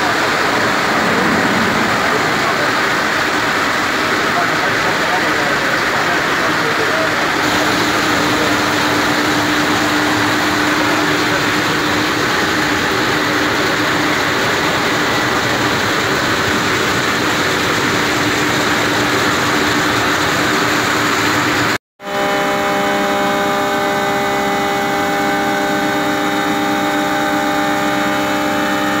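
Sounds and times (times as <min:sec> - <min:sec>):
polishing machine working stone: 0:00.0 - 0:29.0
steady hum: 0:00.0 - 0:29.0
steady whining tones: 0:00.0 - 0:29.0.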